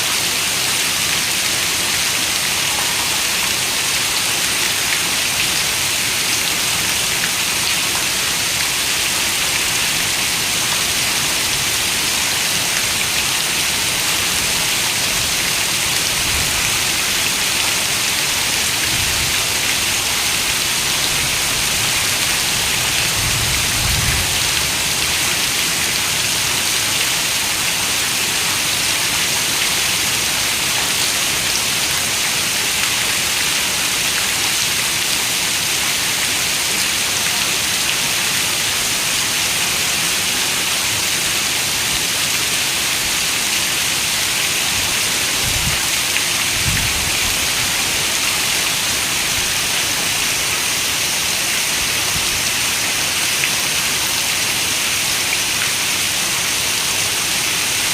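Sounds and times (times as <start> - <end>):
dense rainfall: 0.0 - 57.9.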